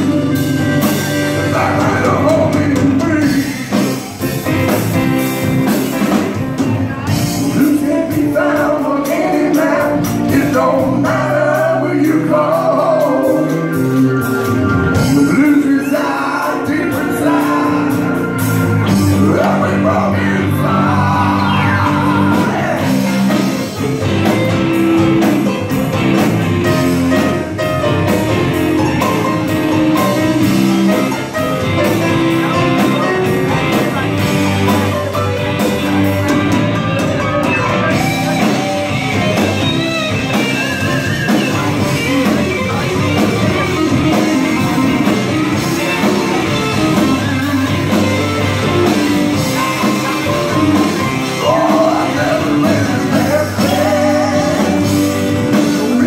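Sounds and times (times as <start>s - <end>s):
person singing: 0.0s - 4.2s, 6.6s - 24.4s, 29.0s - 56.0s
live rock band playing: 0.0s - 56.0s.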